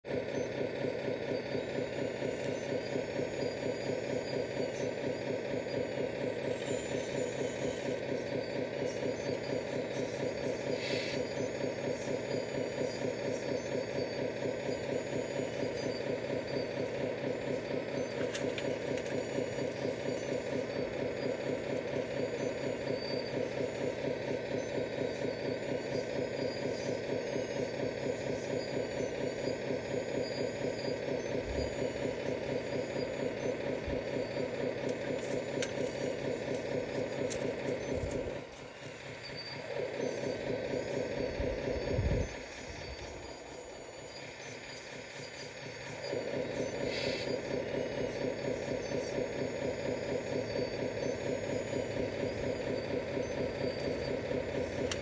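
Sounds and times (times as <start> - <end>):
model excavator motor drone: 0.0 - 55.0.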